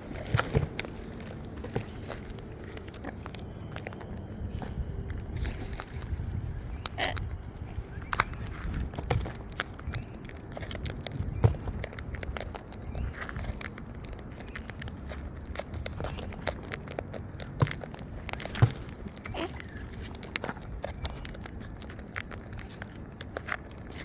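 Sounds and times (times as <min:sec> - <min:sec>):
low rumble: 0:00.0 - 0:23.0
beaks crunching food: 0:00.0 - 0:24.0.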